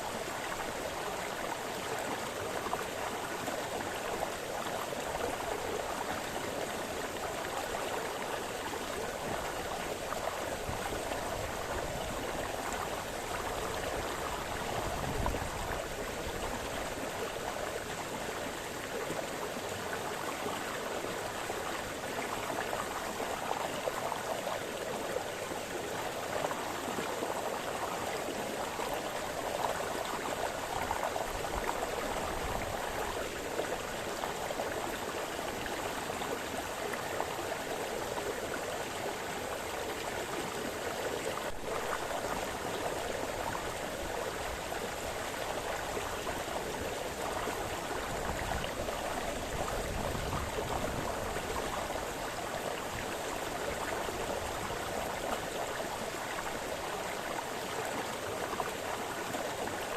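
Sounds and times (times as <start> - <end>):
brook burbling over stones: 0.0 - 59.9.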